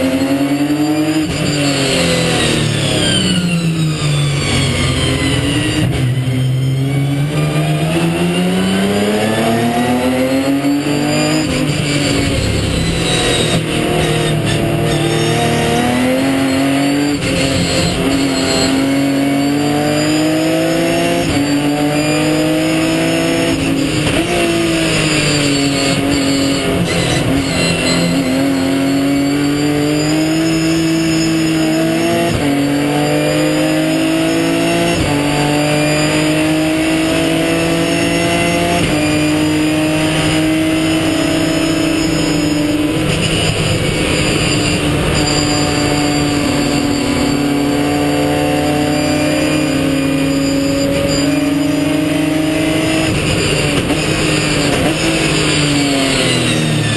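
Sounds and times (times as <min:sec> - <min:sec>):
race car engine revving: 0:00.0 - 0:56.9
road and wind noise: 0:00.0 - 0:56.9.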